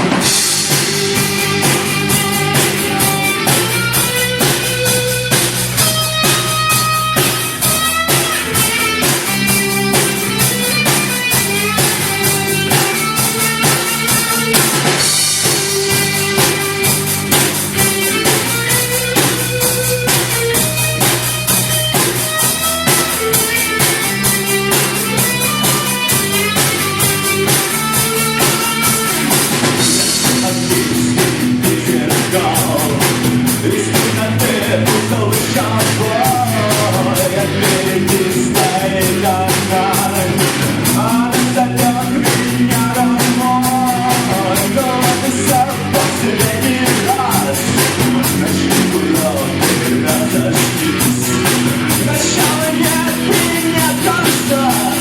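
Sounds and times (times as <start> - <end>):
drum kit beat: 0.0 - 55.0
live rock band playing: 0.0 - 55.0.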